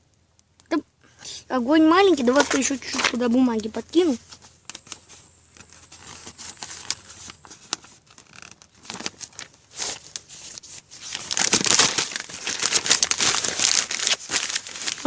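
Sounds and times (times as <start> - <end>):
paper crumpling and tearing: 2.0 - 3.3, 4.0 - 15.0.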